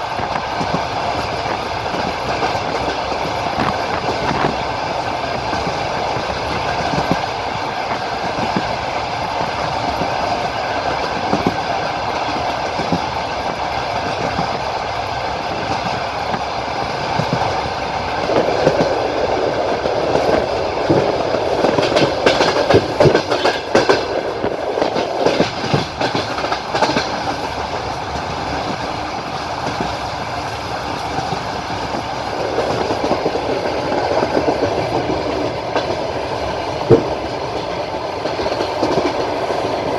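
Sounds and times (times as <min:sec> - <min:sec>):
train rolling rumble: 0:00.0 - 0:39.9
train wheels clacking over rail joints: 0:00.0 - 0:39.9.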